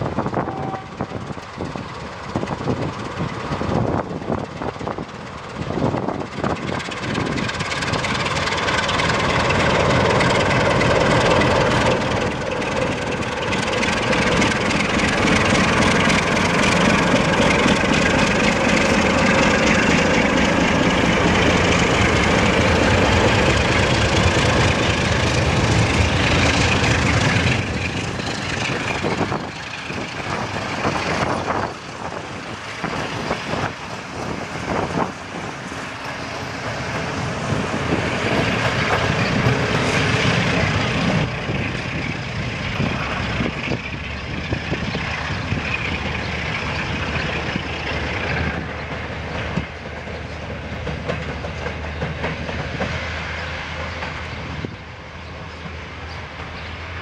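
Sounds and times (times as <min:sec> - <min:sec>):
diesel locomotive engine under load: 0:00.0 - 0:57.0.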